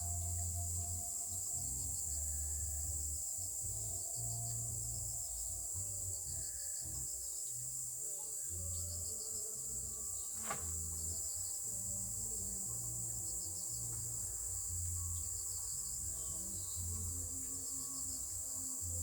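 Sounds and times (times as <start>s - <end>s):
crickets chirping: 0.0s - 19.0s
soft background music: 0.0s - 19.0s.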